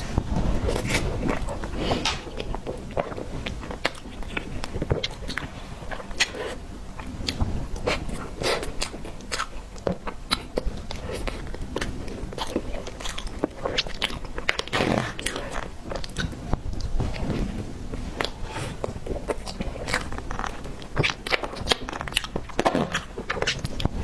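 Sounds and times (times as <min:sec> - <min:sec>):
person chewing cake: 0:00.0 - 0:24.0.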